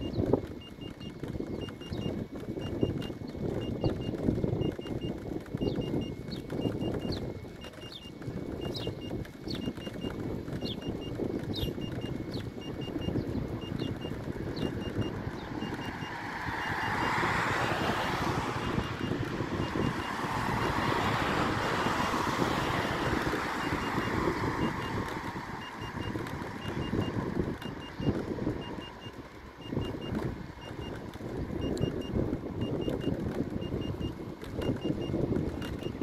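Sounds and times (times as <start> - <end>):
high-pitched warning beeps: 0.0 - 36.0
road traffic: 0.0 - 36.0
wind rumble on microphone: 0.0 - 36.0.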